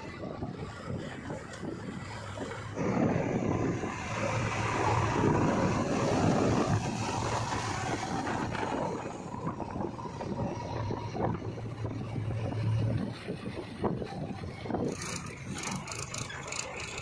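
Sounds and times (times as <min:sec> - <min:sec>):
tyre and wind noise: 0:00.0 - 0:17.0
diesel engine running: 0:00.1 - 0:17.0.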